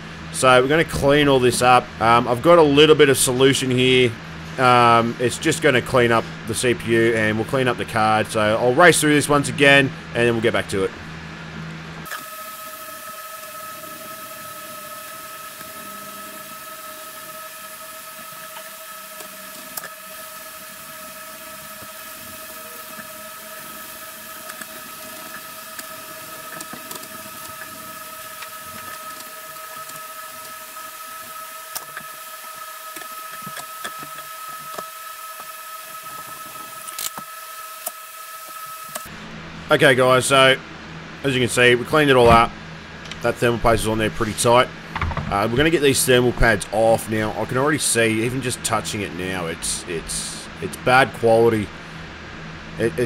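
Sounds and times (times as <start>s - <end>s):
high-pitched hum: 0.0s - 53.0s.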